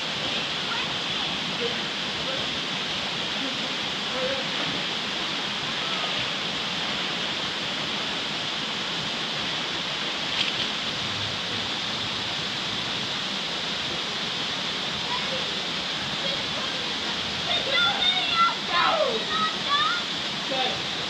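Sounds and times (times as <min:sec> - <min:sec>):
waterfall pouring into rock pool: 0:00.0 - 0:21.0.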